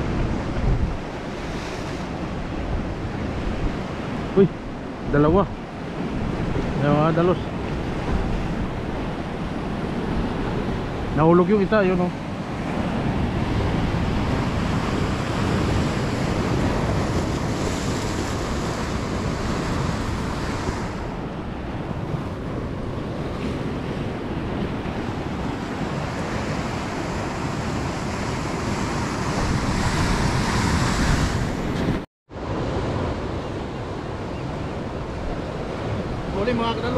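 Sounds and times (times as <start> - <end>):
surf breaking on beach: 0.0 - 36.9
wind buffeting microphone: 0.0 - 36.9.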